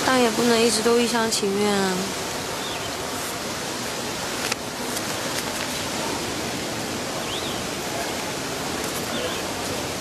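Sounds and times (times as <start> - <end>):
outdoor ambience hiss: 0.0 - 10.0.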